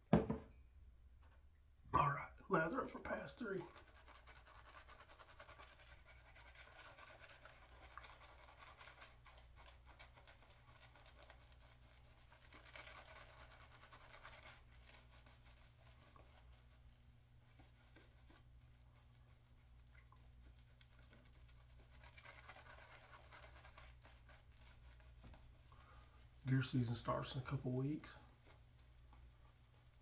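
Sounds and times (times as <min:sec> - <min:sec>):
shaving brush swishing lather: 0:02.5 - 0:30.0.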